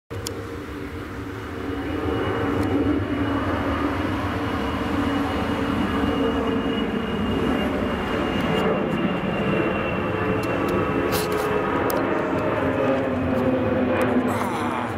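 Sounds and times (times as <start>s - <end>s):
jet airliner engines rumbling: 0.1s - 14.9s.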